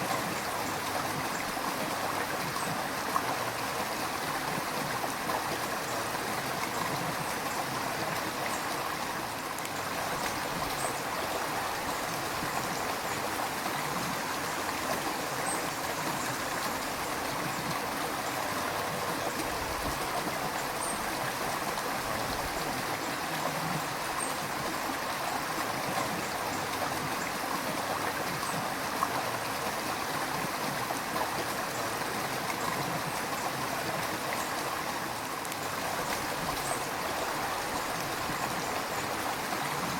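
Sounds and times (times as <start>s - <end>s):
river water over stones: 0.0s - 39.9s.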